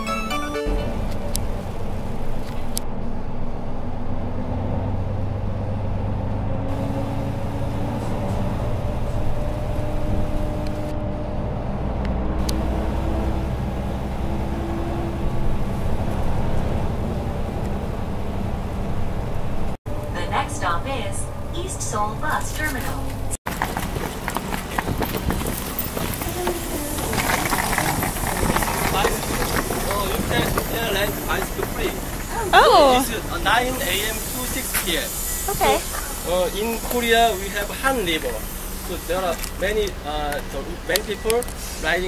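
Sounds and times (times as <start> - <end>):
bus engine rumble: 0.0 - 42.0
road noise: 0.0 - 42.0.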